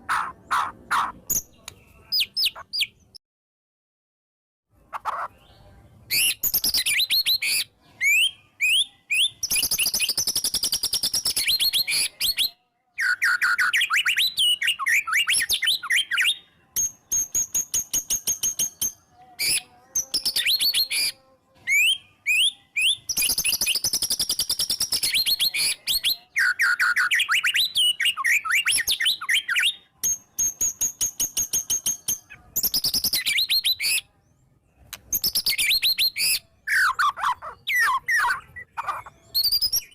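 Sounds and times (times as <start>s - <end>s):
bird singing rapid whistles: 6.1s - 34.1s, 35.0s - 39.9s.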